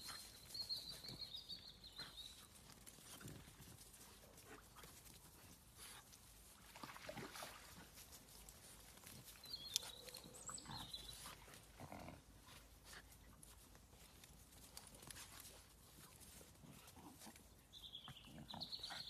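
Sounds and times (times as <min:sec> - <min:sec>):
small dogs playing: 0:00.0 - 0:19.0.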